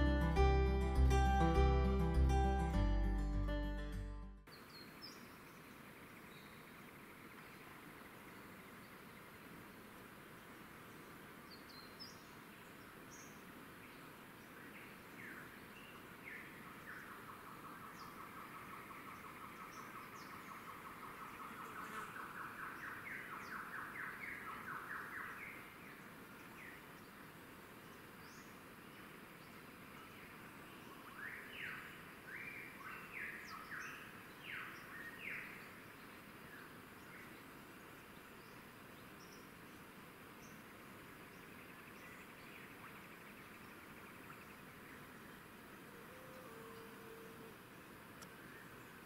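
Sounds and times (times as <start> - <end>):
faint steady hiss: 4.5 - 49.0.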